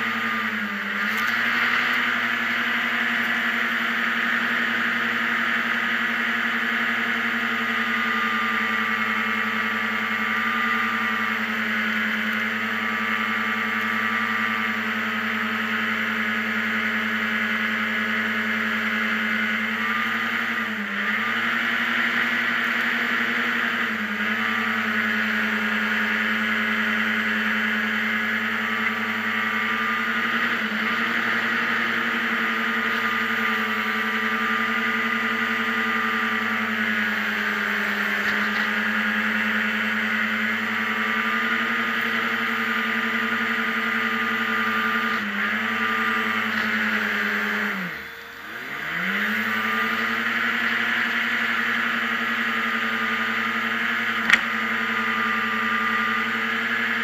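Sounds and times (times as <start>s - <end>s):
hovercraft engine and fan: 0.0s - 57.0s.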